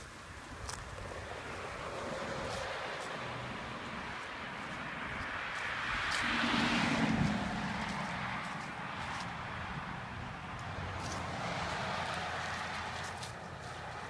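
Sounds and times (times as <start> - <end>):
car passing: 0.0 - 14.0
traffic hum: 0.0 - 14.0.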